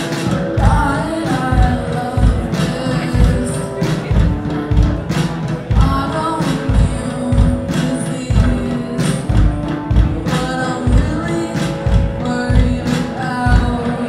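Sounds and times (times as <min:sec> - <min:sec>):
electric guitar: 0:00.0 - 0:14.0
person singing: 0:00.0 - 0:14.0.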